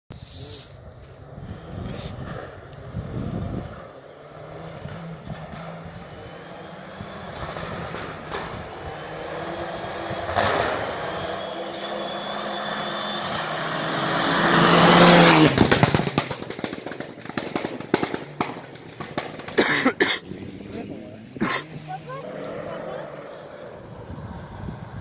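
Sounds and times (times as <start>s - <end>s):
gravel crackling clatter: 0.2s - 13.6s, 14.2s - 25.0s
rally car engine passing: 0.7s - 25.0s.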